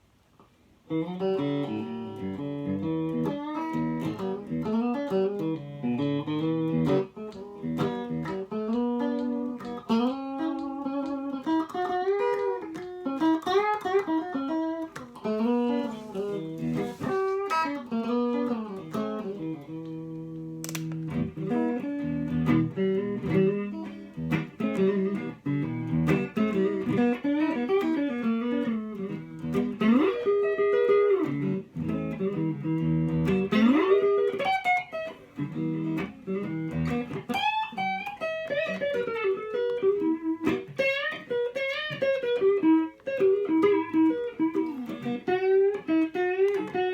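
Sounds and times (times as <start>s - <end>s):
electric guitar playing: 0.9s - 46.9s.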